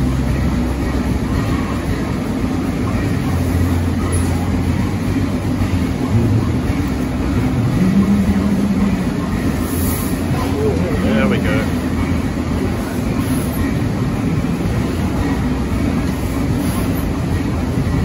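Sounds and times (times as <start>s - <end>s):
stationary engine droning: 0.0s - 18.0s.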